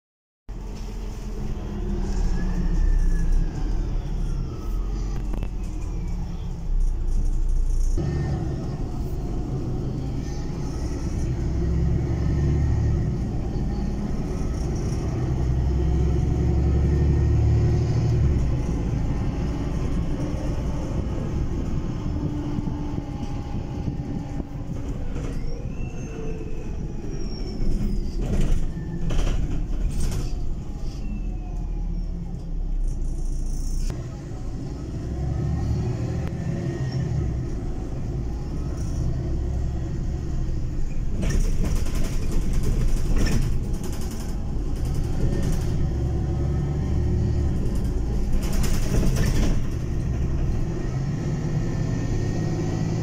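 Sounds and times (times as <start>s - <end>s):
bus engine and road rumble: 0.5s - 53.0s.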